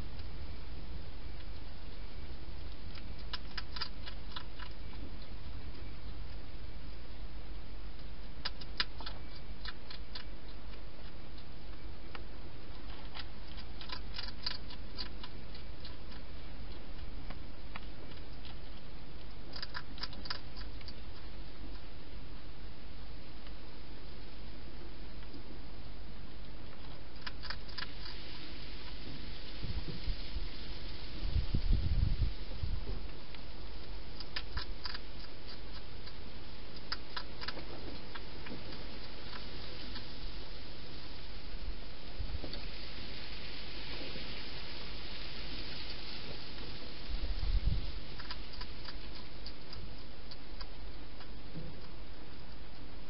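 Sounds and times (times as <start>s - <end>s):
hedgehog chewing: 0.0s - 53.0s
low hiss: 0.0s - 53.0s.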